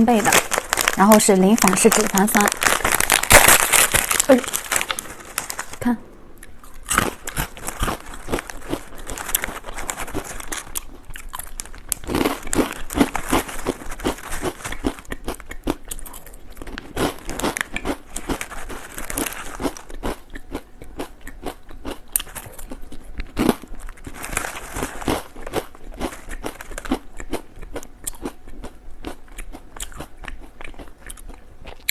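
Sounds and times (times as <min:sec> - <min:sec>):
potato chips crunching: 0:00.0 - 0:31.9.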